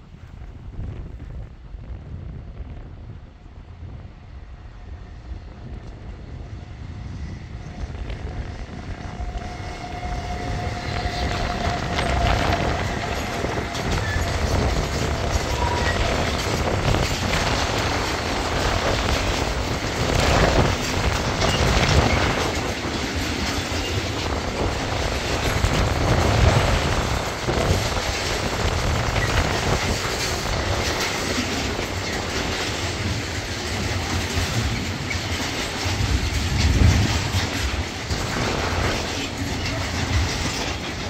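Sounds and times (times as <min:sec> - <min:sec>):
freight train passing: 0:00.0 - 0:41.0
wheels clattering over rail joints: 0:07.6 - 0:41.0.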